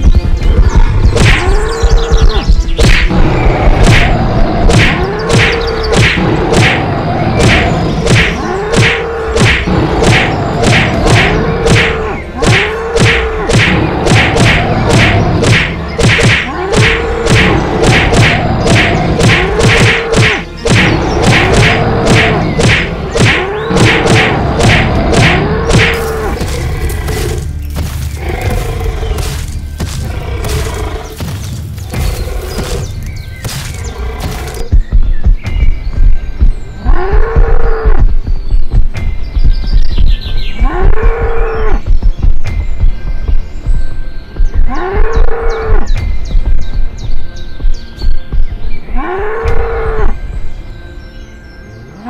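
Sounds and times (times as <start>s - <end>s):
background music: 0.0s - 52.0s.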